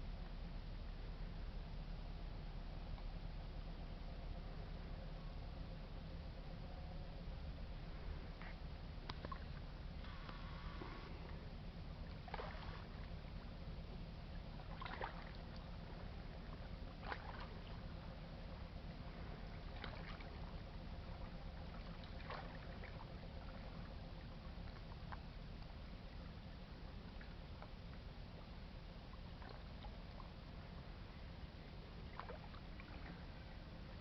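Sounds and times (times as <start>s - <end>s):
faint steady hum: 0.0s - 34.0s
ship engines rumbling: 0.8s - 34.0s.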